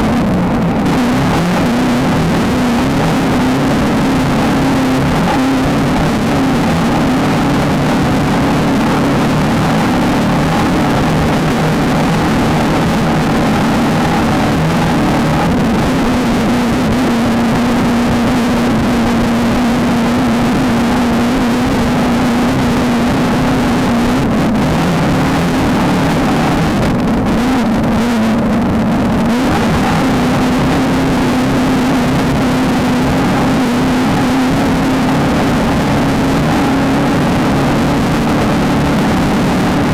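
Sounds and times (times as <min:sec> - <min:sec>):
loud rushing noise: 0:00.0 - 0:39.9
race car engine revving high: 0:00.0 - 0:39.9.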